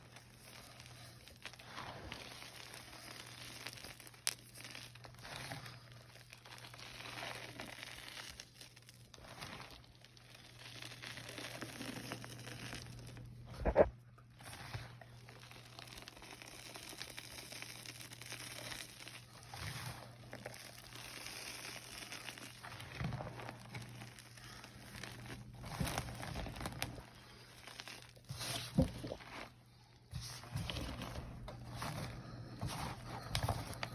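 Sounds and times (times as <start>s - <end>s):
chalk crunching and crackling: 0.0s - 33.9s.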